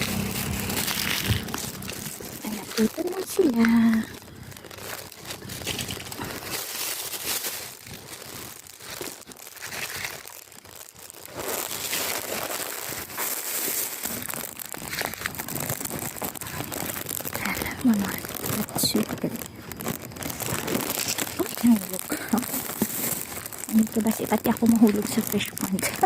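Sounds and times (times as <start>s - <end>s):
leaves and twigs rustling: 0.0s - 26.0s.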